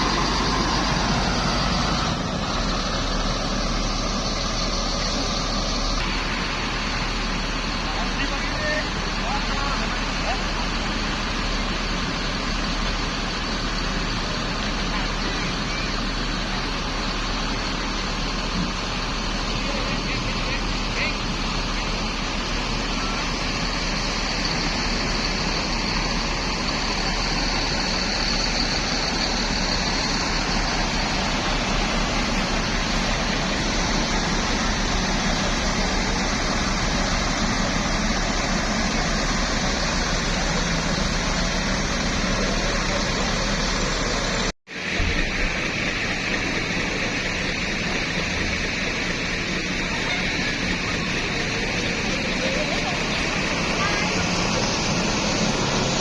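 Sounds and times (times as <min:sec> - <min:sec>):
road traffic roar: 0:00.0 - 0:56.0.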